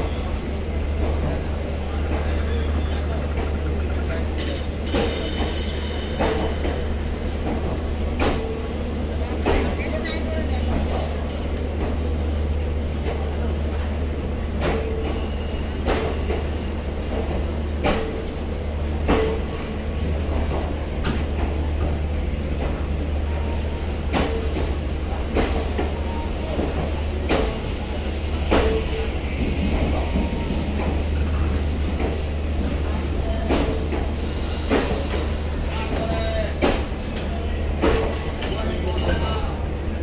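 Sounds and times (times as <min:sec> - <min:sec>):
train wheels knocking on rail joints: 0:00.0 - 0:40.0.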